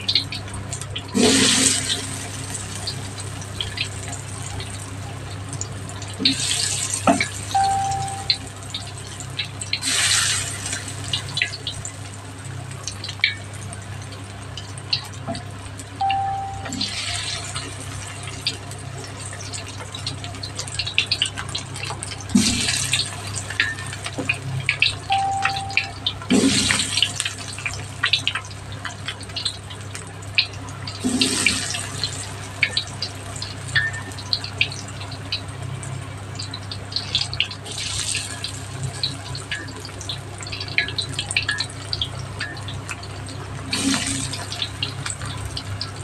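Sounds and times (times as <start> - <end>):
food deep-frying in hot oil: 0.0 - 46.0.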